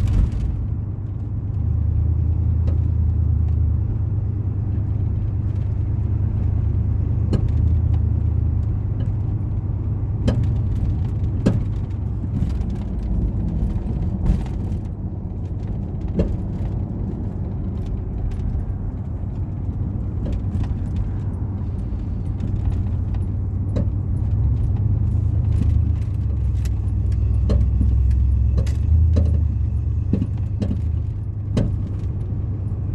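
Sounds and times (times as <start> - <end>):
car road and engine rumble: 0.0 - 32.9.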